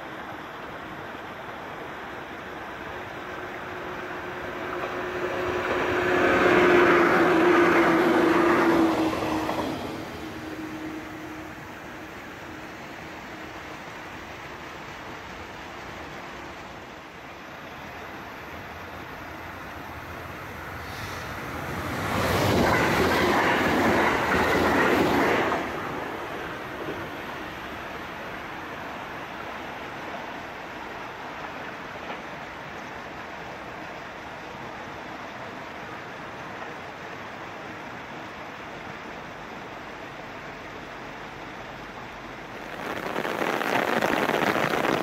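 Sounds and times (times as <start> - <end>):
electric train passing: 0.0 - 45.0.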